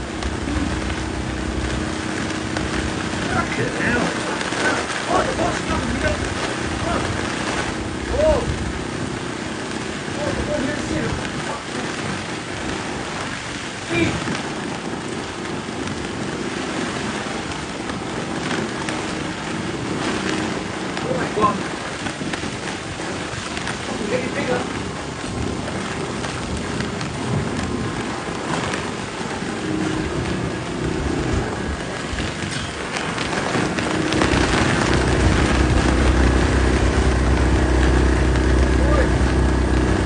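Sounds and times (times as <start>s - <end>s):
low rumble: 0.0s - 21.0s, 21.6s - 40.0s
heavy rain: 0.0s - 40.0s
storm wind: 0.0s - 40.0s
wind buffeting microphone: 0.0s - 40.0s.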